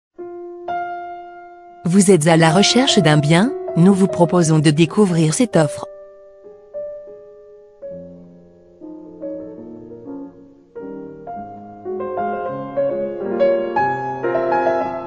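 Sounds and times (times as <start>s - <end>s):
piano music: 0.2s - 15.0s.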